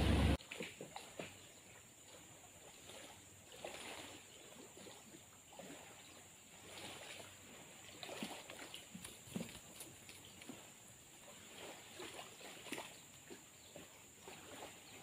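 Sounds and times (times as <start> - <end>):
faint riverside ambience: 0.0 - 15.0.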